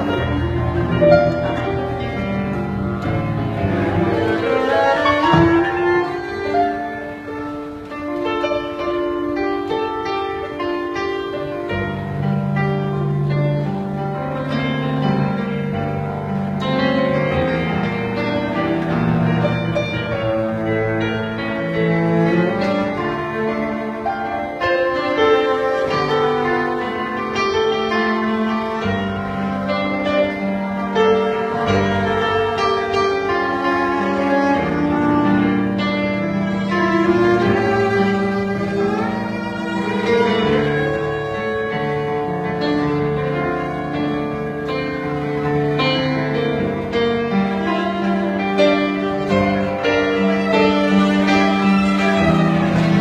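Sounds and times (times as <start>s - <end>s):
cello bowing a melody: 0.0s - 53.0s.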